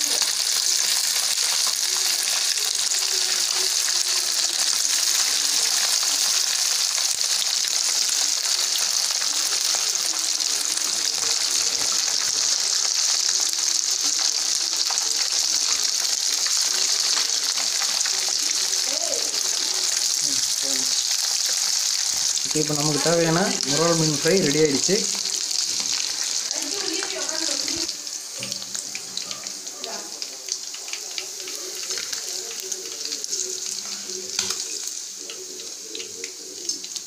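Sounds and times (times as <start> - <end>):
fish sizzling in hot oil: 0.0 - 37.0.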